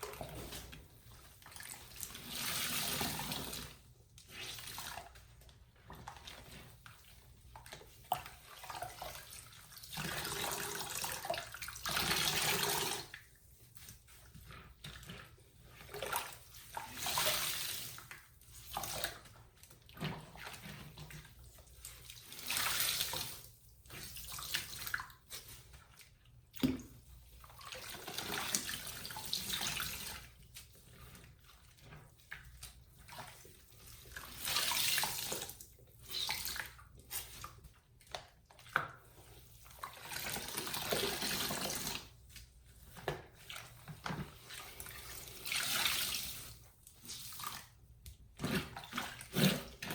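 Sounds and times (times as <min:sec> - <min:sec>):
wet sponge squeezed gushing water: 0:00.0 - 0:49.9.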